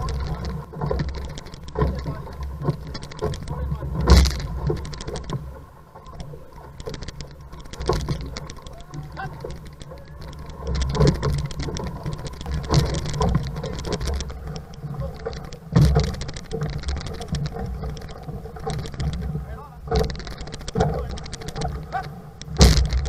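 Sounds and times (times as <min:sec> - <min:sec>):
water splashing against canoe hull: 0:00.0 - 0:23.0
wind rumbling on microphone: 0:00.0 - 0:23.0.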